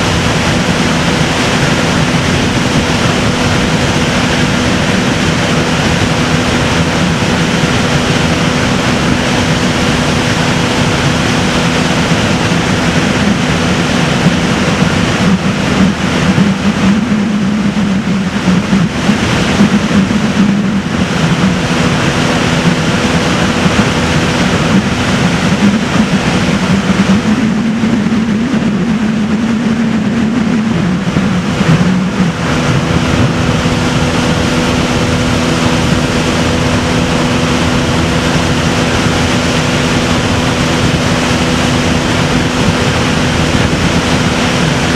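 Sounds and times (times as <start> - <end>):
boat motor humming: 0.0 - 44.9
water noise: 0.0 - 44.9
wind noise: 0.0 - 44.9.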